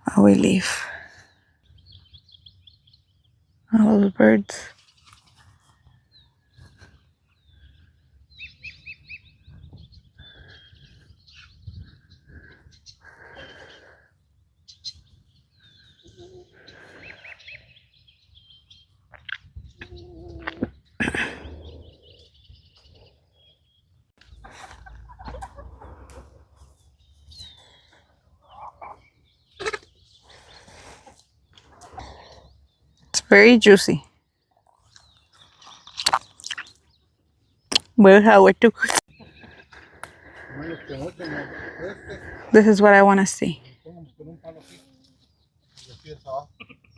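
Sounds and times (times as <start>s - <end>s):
small birds chirping: 0.2s - 46.9s.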